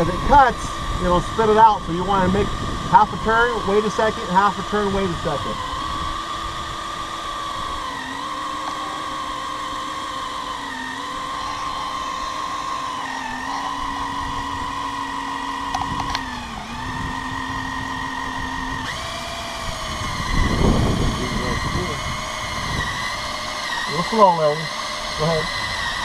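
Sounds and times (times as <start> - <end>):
cordless drill cutting plastic pipe: 0.0 - 26.0.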